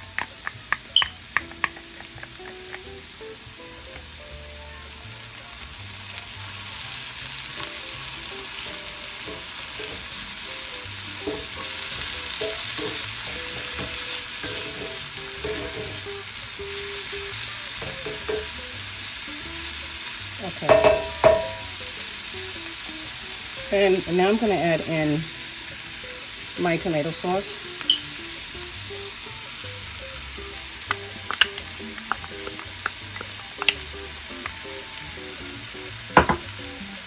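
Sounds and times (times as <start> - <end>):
vegetables sizzling in skillet: 0.0 - 37.0.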